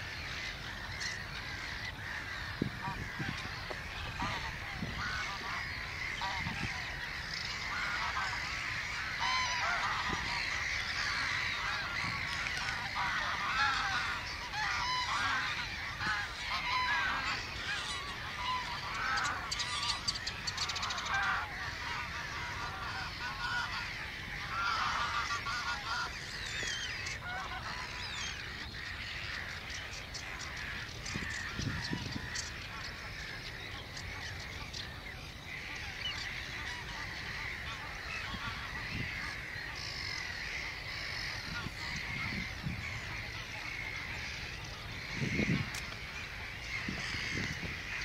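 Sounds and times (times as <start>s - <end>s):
waterbirds calling: 0.0s - 48.0s.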